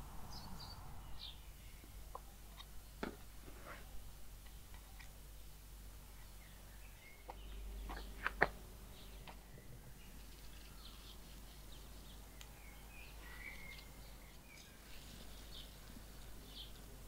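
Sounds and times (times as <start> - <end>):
birds chirping: 0.0 - 3.0, 4.4 - 17.0.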